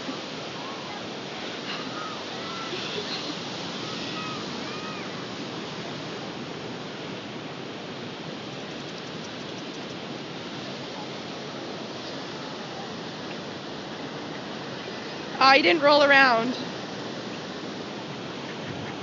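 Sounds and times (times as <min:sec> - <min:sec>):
ocean waves washing on beach: 0:00.0 - 0:19.0.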